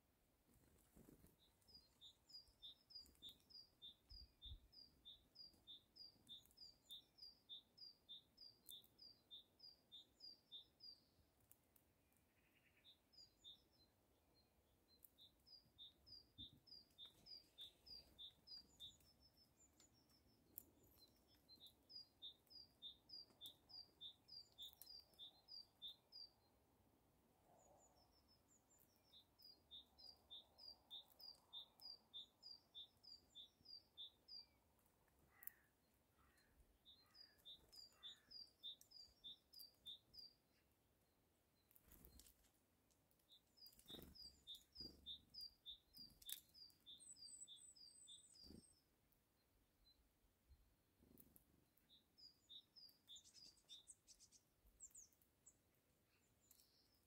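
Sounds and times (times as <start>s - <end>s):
bird twitter: 1.4s - 11.1s, 12.3s - 26.4s, 27.6s - 40.7s, 43.3s - 48.9s, 51.8s - 57.0s.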